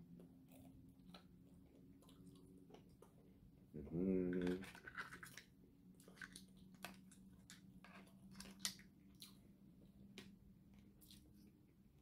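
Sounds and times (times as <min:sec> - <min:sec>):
faint steady hum: 0:00.0 - 0:12.0
soft chewing: 0:00.0 - 0:12.0.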